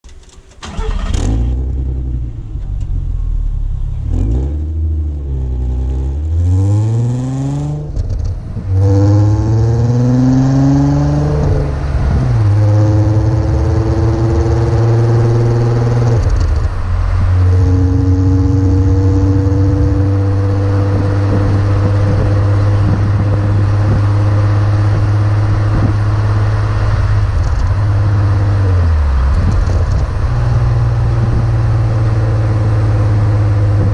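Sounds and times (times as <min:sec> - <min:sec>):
car engine revving: 0:00.6 - 0:33.9.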